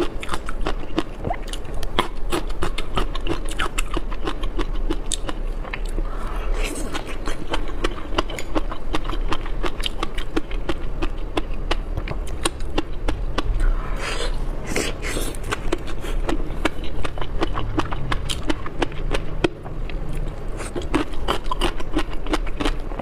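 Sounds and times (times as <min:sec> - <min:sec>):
chewing and mouth sounds: 0:00.0 - 0:23.0.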